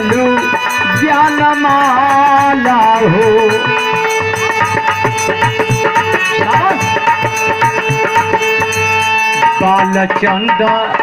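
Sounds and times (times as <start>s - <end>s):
sustained reed-like notes: 0.0s - 10.7s
bending melodic line: 0.0s - 11.0s
hand drum beat: 0.0s - 11.0s.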